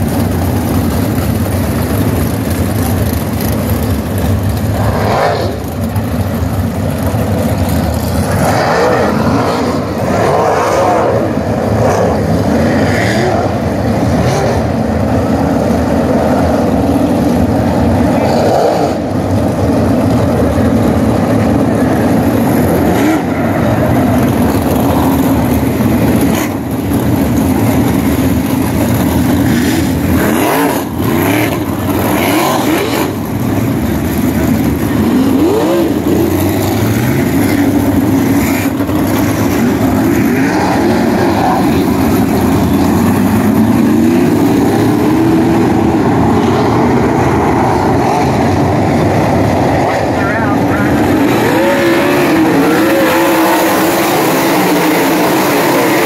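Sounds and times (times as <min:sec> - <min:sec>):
race car engines droning: 0:00.0 - 0:56.0
race cars passing by: 0:00.0 - 0:56.0.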